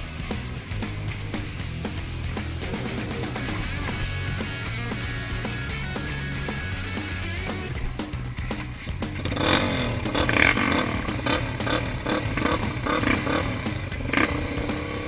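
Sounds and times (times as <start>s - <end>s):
off-road vehicle engines running: 0.0s - 15.0s.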